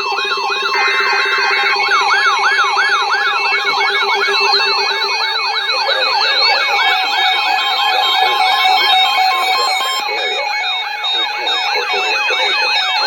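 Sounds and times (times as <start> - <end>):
steady high beeps: 0.0 - 13.0
warbling alert tones: 0.0 - 13.0.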